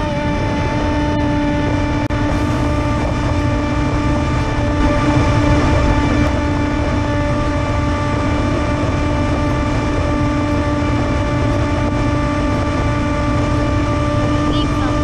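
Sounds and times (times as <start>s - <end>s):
electric motor and propeller whine: 0.0s - 15.0s
wind rushing over microphone: 0.0s - 15.0s.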